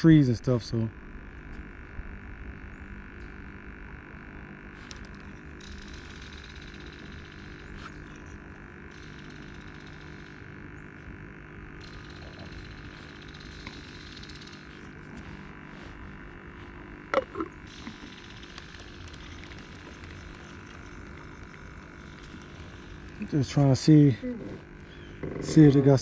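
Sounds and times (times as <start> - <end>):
low hum: 0.0 - 26.0
high insect-like buzz: 2.6 - 26.0.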